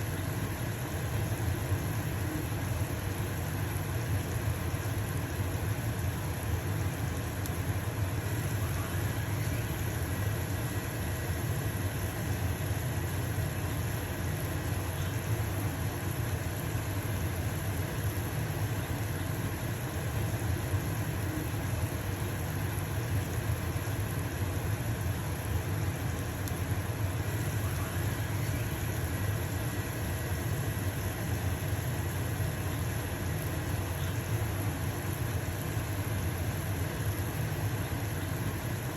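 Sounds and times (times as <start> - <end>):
batter sizzling in a frying pan: 0.0 - 38.9
range hood fan humming: 0.0 - 38.9.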